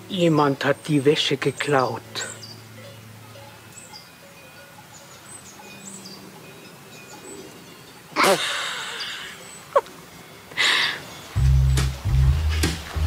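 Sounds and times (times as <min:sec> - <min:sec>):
birds chirping faintly: 0:00.0 - 0:12.8.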